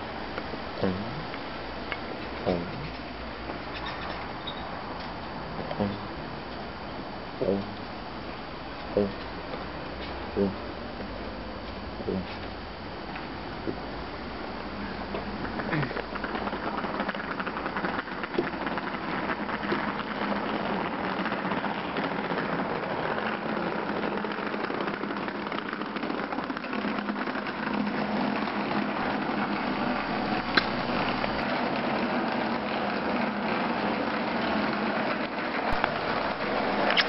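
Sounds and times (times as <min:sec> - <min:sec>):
suitcase wheels rolling on concrete: 0:00.0 - 0:37.0.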